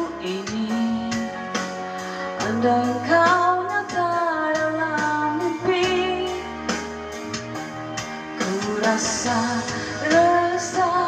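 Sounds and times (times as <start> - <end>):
guitar accompaniment: 0.0 - 11.0
person singing pop song: 0.0 - 11.0.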